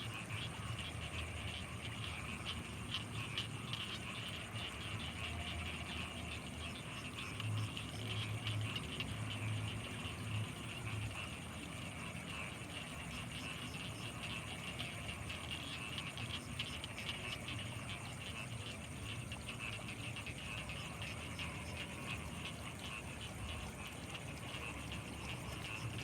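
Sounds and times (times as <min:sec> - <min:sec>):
frogs calling in chorus: 0:00.0 - 0:26.0.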